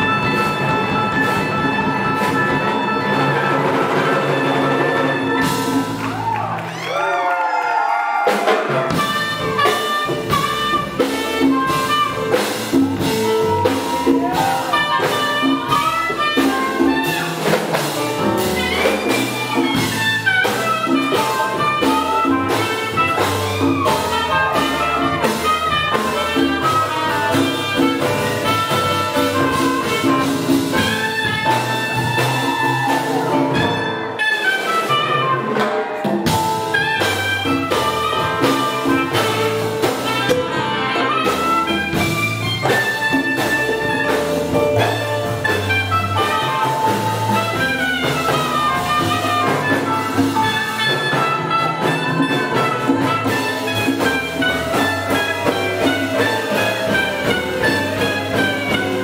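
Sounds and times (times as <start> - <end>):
big band jazz horns: 0.0 - 59.0
conga and drum beat: 0.0 - 59.0.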